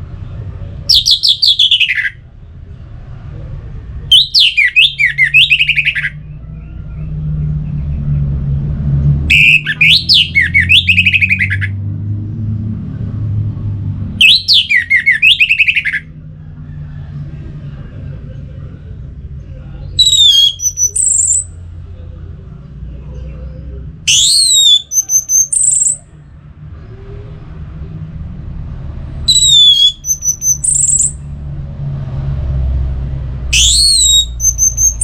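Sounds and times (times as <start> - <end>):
steady low rumble: 0.0 - 1.5, 2.1 - 14.9, 16.0 - 25.2, 25.8 - 35.0
thrush singing: 4.0 - 11.8, 14.2 - 35.0.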